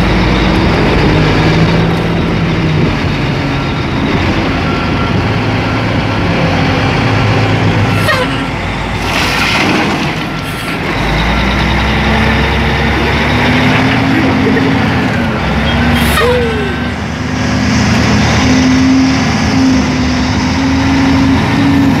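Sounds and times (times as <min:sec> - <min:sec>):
loader diesel engine under load: 0:00.0 - 0:22.0.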